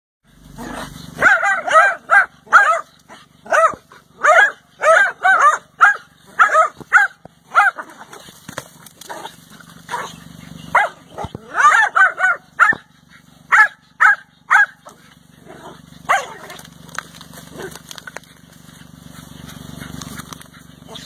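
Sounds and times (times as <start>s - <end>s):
dogs barking: 0.5s - 21.0s.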